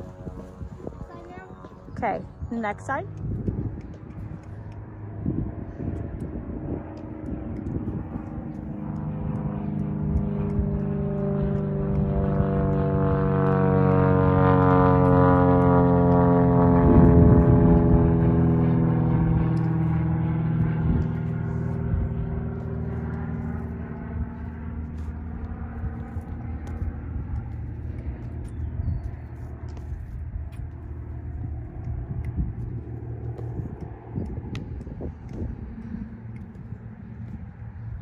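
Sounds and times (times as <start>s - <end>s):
airplane engine drone: 0.0s - 38.0s.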